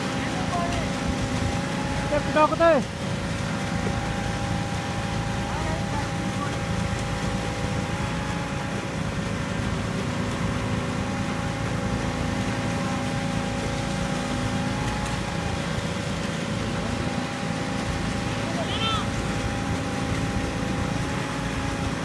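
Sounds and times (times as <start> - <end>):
held whining tones: 0.3 - 22.0.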